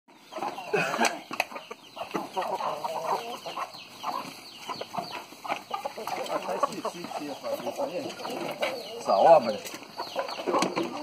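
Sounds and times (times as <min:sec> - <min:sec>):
chickens clucking: 0:00.1 - 0:11.0.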